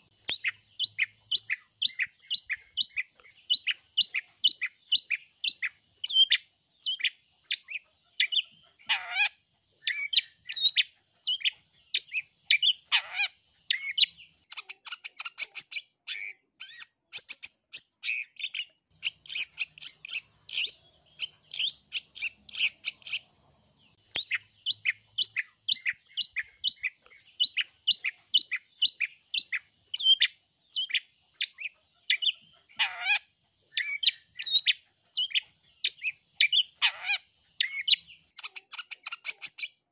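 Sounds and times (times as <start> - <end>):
harsh downward bird calls: 0.0 - 39.8
bird chirping song: 0.0 - 39.9.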